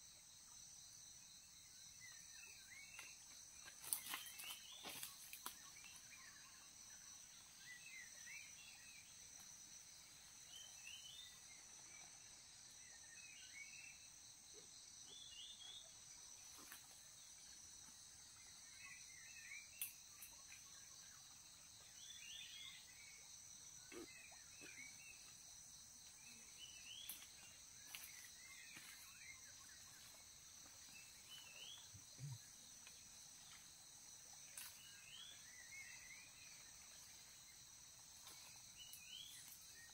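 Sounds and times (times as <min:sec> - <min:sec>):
high drone of insects: 0:00.0 - 0:39.9.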